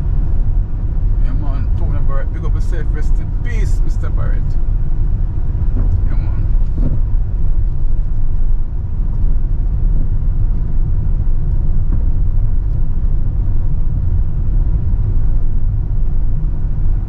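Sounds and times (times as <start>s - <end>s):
car road rumble inside cabin: 0.0s - 17.0s.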